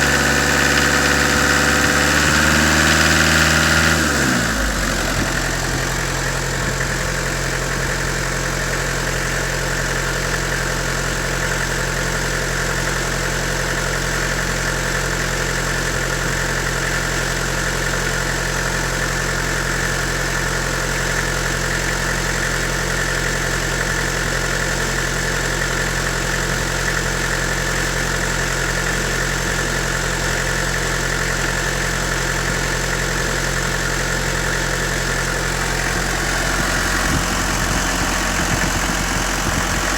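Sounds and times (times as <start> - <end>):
diesel engine idling: 0.0 - 19.6, 25.1 - 39.9.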